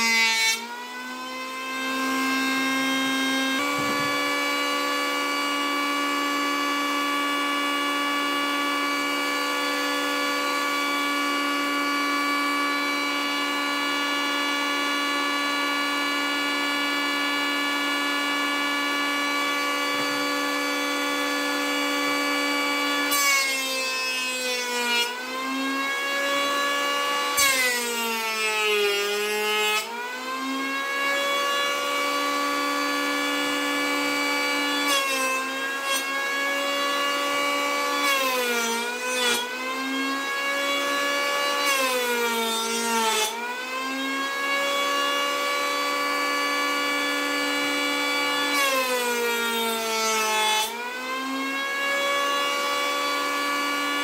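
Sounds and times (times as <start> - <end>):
electric planer motor whine: 0.0 - 54.0
planer blades rasping over wood: 0.0 - 54.0.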